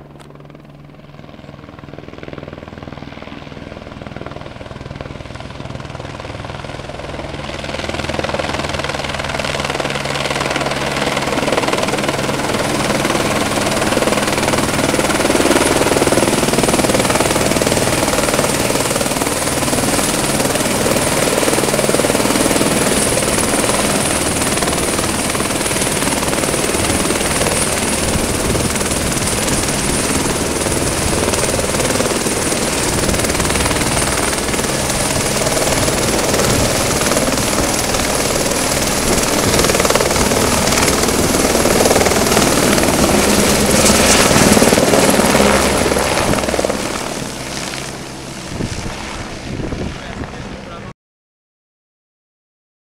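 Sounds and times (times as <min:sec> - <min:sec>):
helicopter rotor noise: 0:00.0 - 0:50.9
high turbine whine: 0:07.4 - 0:50.9.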